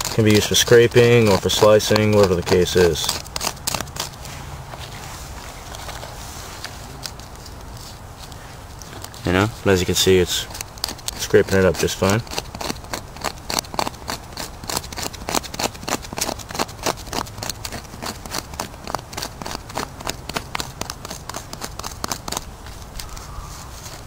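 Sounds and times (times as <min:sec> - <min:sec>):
stone flake scraping bark: 0:00.0 - 0:24.0.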